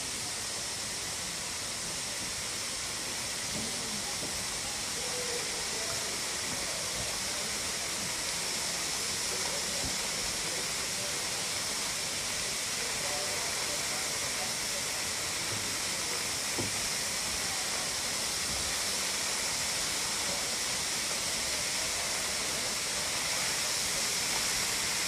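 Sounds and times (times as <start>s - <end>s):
faint distant voices: 0.0s - 25.0s
waterfall rushing: 0.0s - 25.0s.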